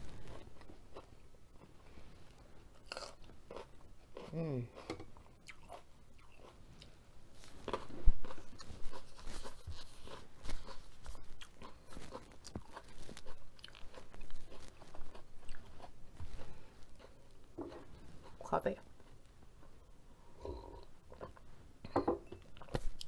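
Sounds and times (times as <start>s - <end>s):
person chewing food: 0.0s - 21.5s, 22.3s - 23.0s.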